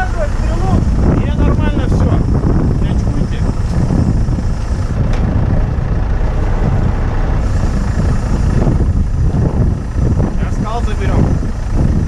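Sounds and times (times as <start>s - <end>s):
truck engine running: 0.0s - 12.0s
wind buffeting microphone: 0.0s - 12.0s.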